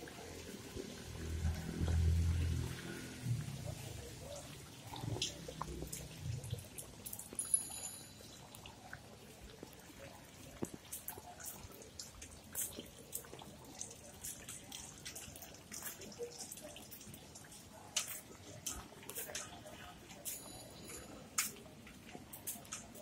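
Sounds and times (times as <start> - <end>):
quiet street background: 0.0 - 23.0.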